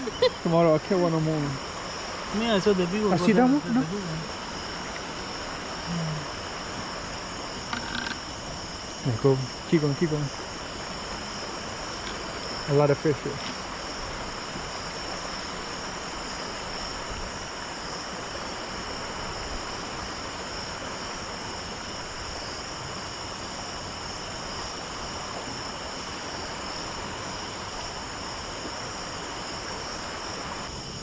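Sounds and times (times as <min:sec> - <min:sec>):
crickets and insects trilling: 0:00.0 - 0:31.0
low hiss: 0:00.0 - 0:31.0.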